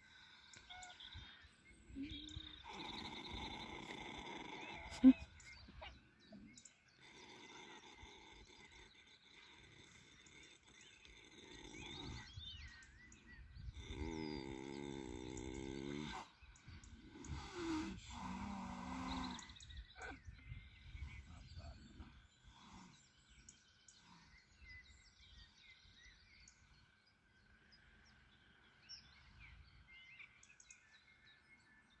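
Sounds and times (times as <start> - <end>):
horse snoring: 0.0 - 26.1
small birds chirping: 0.0 - 32.0.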